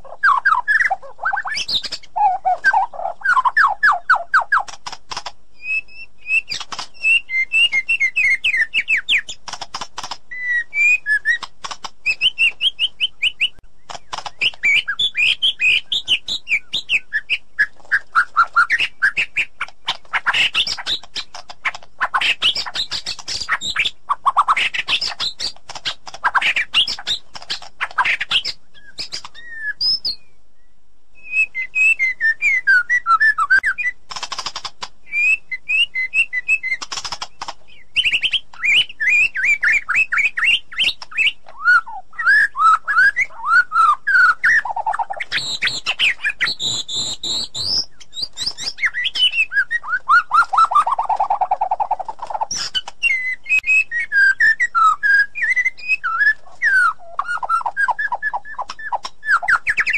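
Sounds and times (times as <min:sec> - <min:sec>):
bird singing whistled phrases: 0:00.0 - 0:04.7, 0:05.6 - 0:09.3, 0:10.3 - 0:13.6, 0:14.4 - 0:21.1, 0:28.0 - 0:34.0, 0:35.1 - 0:36.8, 0:37.7 - 0:59.9.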